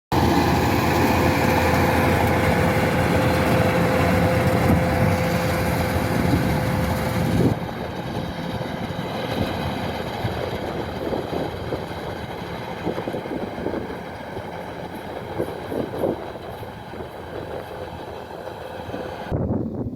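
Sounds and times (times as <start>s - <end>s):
combine harvester running: 0.1s - 19.6s.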